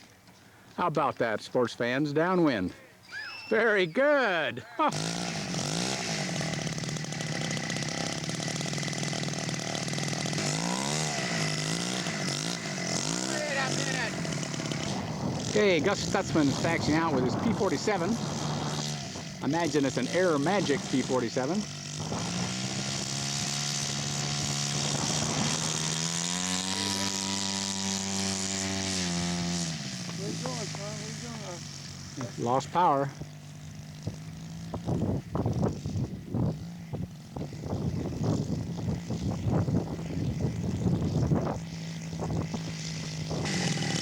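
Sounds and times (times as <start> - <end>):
model airplane engine running: 4.8 - 44.0.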